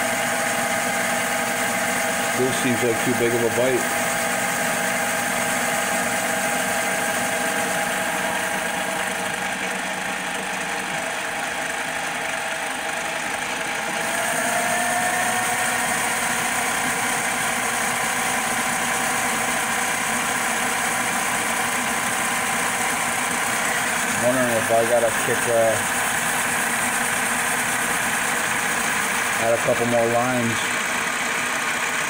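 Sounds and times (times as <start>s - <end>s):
lathe cutting metal: 0.0s - 32.0s.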